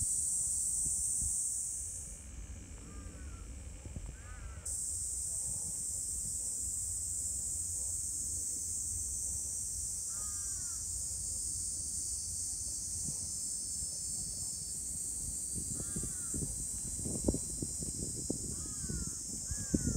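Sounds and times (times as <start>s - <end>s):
cicadas chorus: 0.0s - 19.9s.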